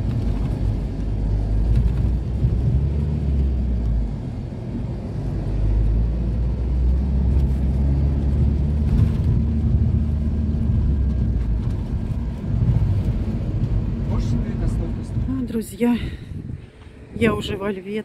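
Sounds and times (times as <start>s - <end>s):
vehicle engine drone and road rumble: 0.0s - 18.0s.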